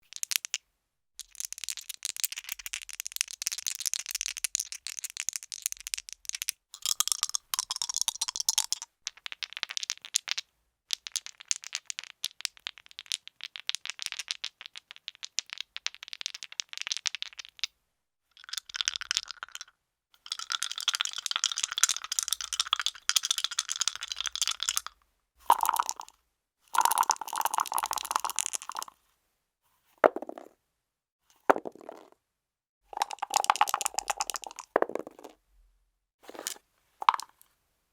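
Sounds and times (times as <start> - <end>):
dice rattling and clattering: 0.1 - 0.6, 1.2 - 17.7, 18.4 - 19.7, 20.3 - 24.9, 25.5 - 26.1, 26.7 - 28.9, 30.0 - 30.5, 31.3 - 32.2, 32.9 - 35.4, 36.2 - 37.4.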